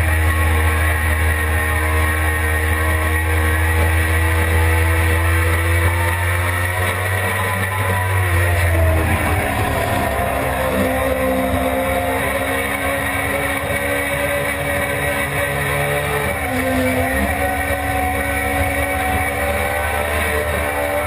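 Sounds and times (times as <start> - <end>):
motorcycle engine running hard: 0.0 - 21.0.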